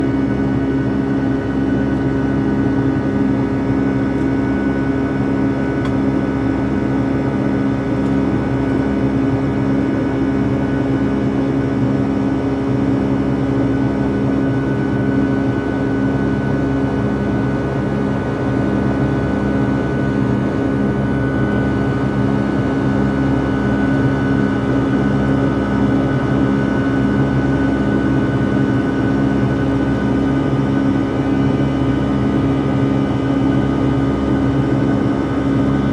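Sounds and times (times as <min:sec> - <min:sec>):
airplane engines droning in cabin: 0:00.0 - 0:35.9.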